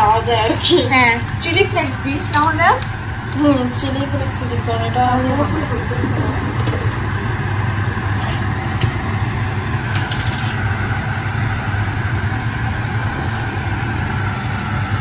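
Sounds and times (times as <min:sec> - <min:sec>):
kitchen appliance humming: 0:00.0 - 0:15.0.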